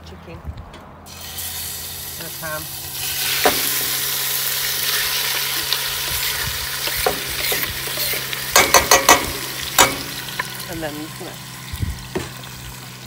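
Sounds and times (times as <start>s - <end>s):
chicken sizzling in a pot: 1.1s - 13.0s.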